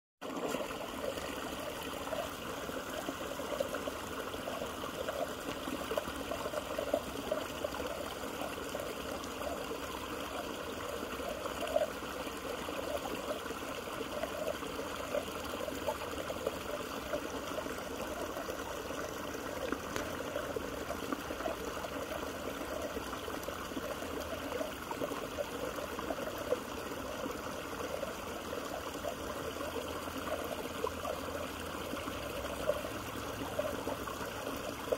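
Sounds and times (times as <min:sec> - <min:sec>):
creek water trickling: 0:00.2 - 0:34.9.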